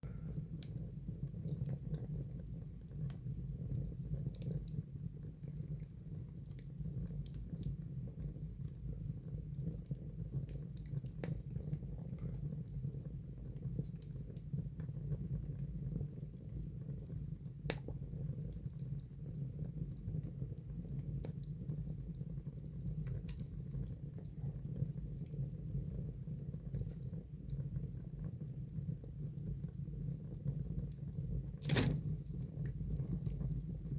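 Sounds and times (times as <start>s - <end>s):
fire crackles and pops: 0.0s - 33.9s
fire rumbling in a fireplace: 0.0s - 33.9s.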